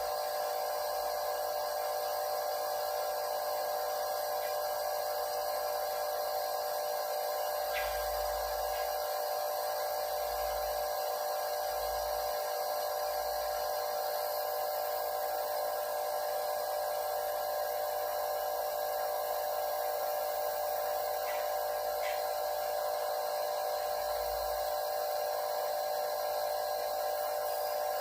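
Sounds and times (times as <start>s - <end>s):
small machine humming: 0.0s - 28.0s.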